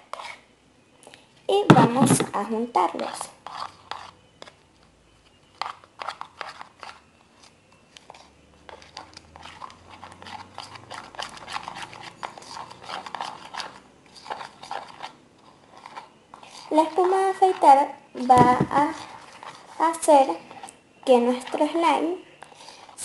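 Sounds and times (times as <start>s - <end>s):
soft squishes of mixing: 0.0s - 23.0s.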